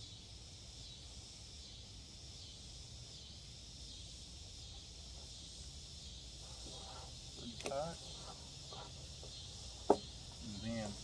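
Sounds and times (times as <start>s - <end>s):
insects chirping chorus: 0.0s - 11.0s.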